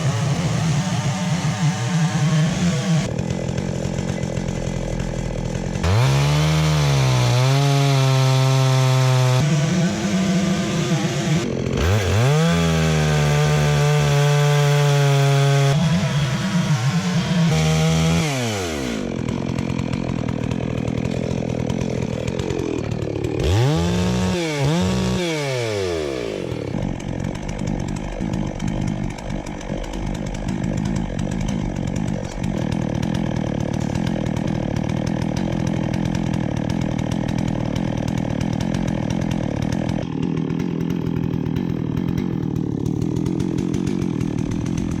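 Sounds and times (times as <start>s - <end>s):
chainsaw revving and cutting: 0.0s - 45.0s.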